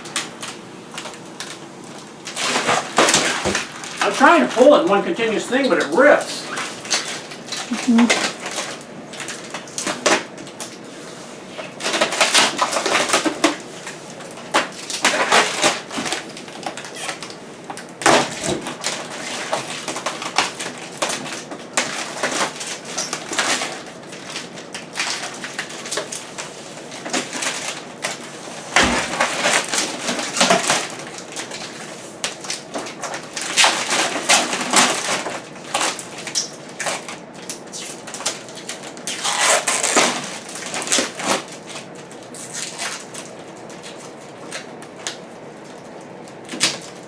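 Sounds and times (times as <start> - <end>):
plastic film peeling and crackling: 0.1 - 47.0.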